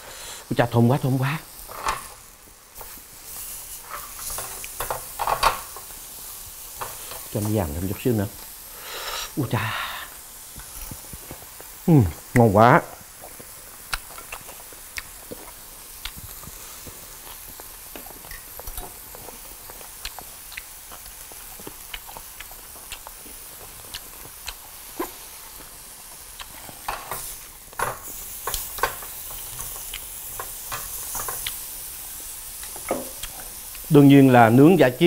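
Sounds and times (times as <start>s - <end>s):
pork sizzling on grill: 0.0s - 35.0s.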